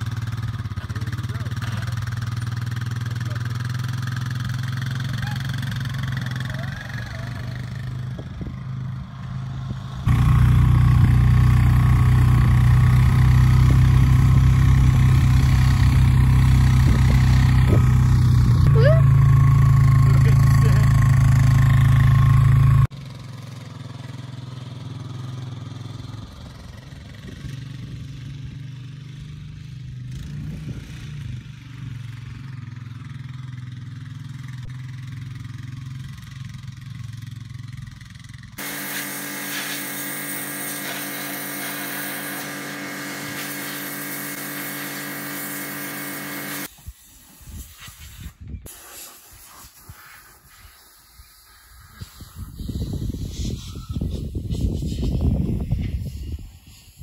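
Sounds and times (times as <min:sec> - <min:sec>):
quad bike engine running: 0:00.0 - 0:46.7.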